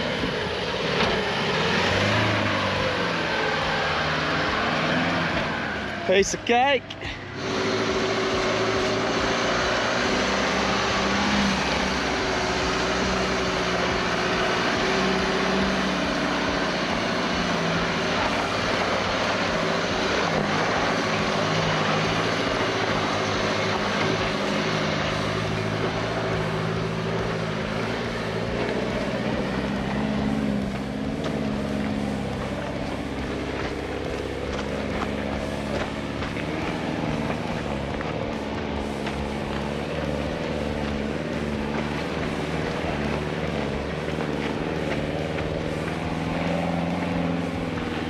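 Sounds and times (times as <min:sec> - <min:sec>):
engine drone: 0:00.0 - 0:48.0
tyre and road noise: 0:00.0 - 0:48.0.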